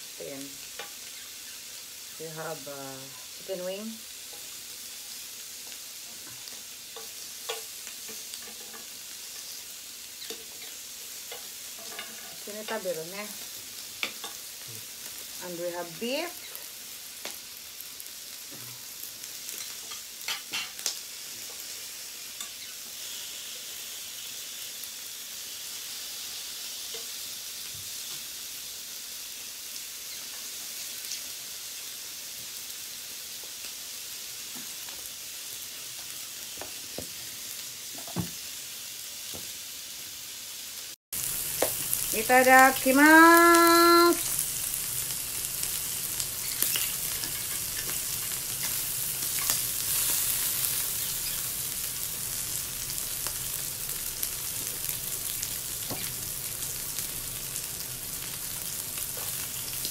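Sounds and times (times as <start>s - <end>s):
meat sizzling on a grill: 0.0s - 59.9s.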